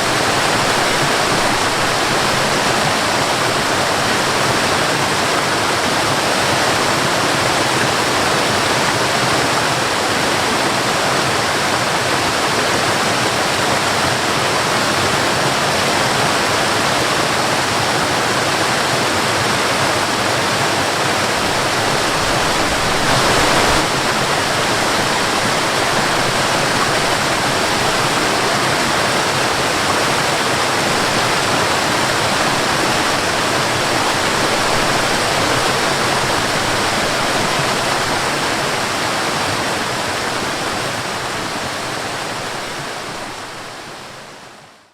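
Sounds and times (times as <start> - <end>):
waterfall rushing: 0.0 - 44.6.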